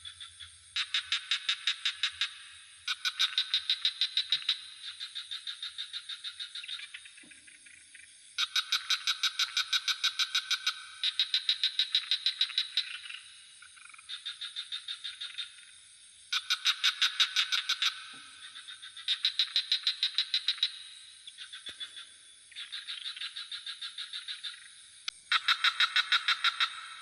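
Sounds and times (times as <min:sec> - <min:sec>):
frogs rattling calls: 0:00.0 - 0:27.0
high-pitched insect drone: 0:00.0 - 0:27.0.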